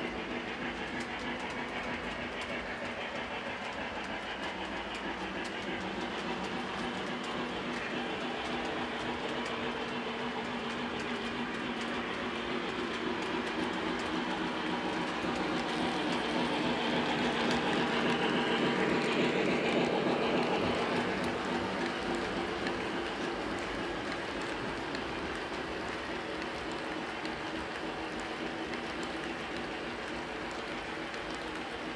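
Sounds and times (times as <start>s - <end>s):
wheels rolling over rails: 0.0s - 31.9s.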